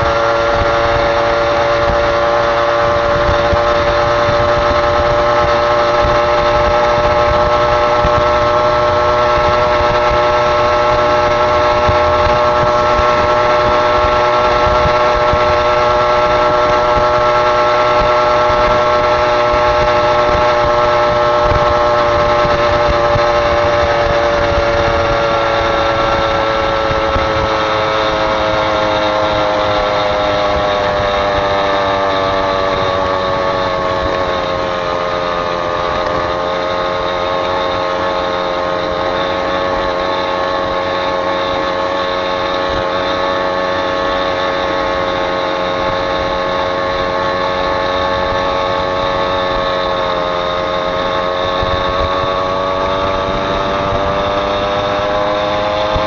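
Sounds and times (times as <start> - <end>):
vehicle engine whine: 0.0 - 56.0.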